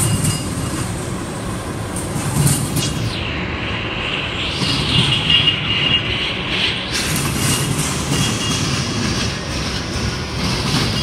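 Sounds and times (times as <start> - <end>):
hissing from rolling cars: 0.0 - 11.0
train wheels rumbling on rail: 0.0 - 11.0.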